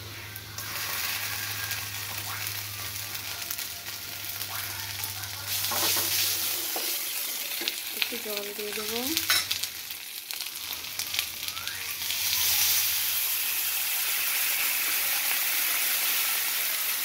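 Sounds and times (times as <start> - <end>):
water sizzling in hot oil: 0.0 - 17.0.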